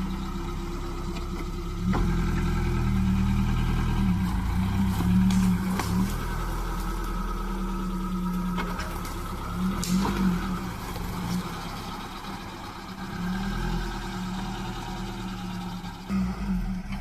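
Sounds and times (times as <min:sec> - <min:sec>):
engine running at low speed: 0:00.0 - 0:17.0.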